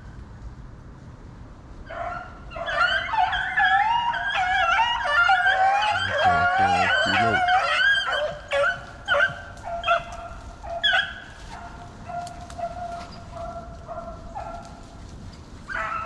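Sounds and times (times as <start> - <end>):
hounds baying and howling: 1.9 - 15.0, 15.6 - 16.0.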